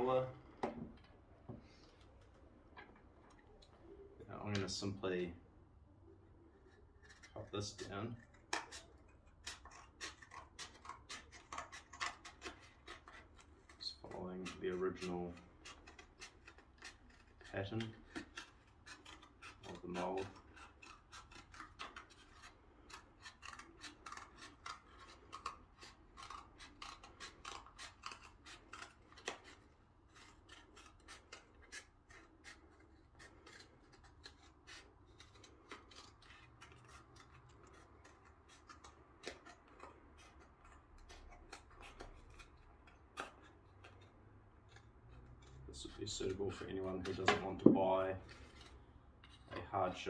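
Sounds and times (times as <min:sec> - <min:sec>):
scissors cutting cardboard: 0:06.6 - 0:50.0.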